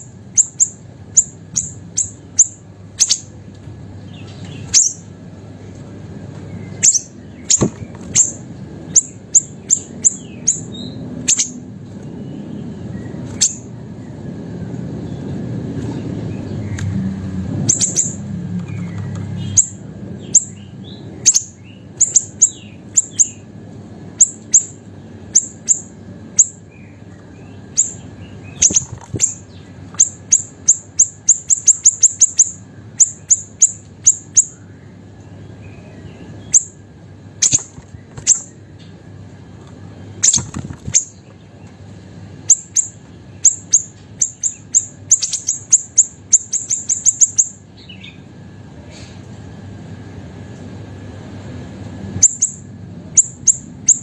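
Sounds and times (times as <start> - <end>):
songbird chirping: 0.0 - 5.2, 6.3 - 14.2, 17.6 - 23.5, 24.1 - 38.9, 39.9 - 48.3, 52.2 - 54.0.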